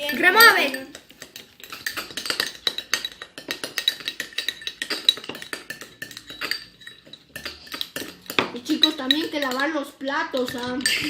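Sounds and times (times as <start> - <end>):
utensil scraping against bowl: 0.0 - 11.0.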